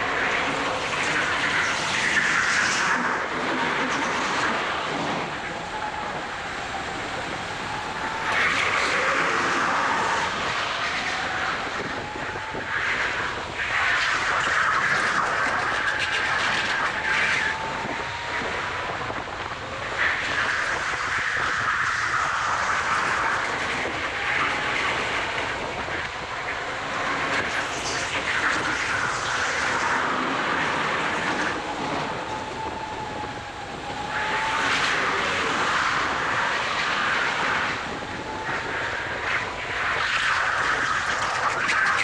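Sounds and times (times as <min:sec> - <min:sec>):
go-kart motor drone: 0:00.0 - 0:42.0.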